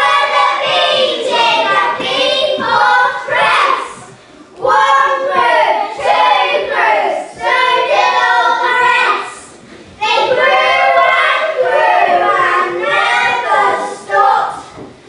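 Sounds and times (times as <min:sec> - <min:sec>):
children singing: 0:00.0 - 0:14.7.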